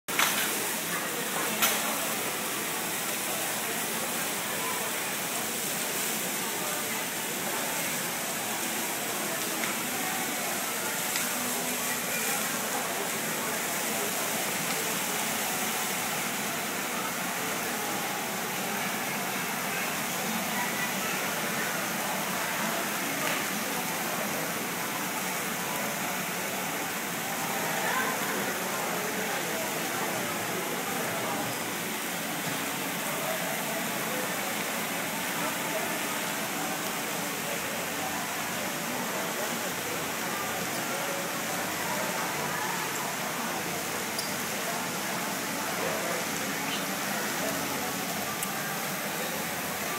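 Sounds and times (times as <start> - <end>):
crowd murmur: 0.1 - 49.9
faint voices: 0.1 - 49.9
fountain water jets splashing: 0.1 - 49.9.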